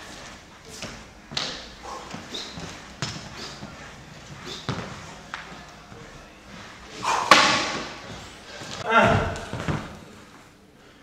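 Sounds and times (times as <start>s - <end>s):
shoe scuffing on wooden floor: 0.0s - 10.0s.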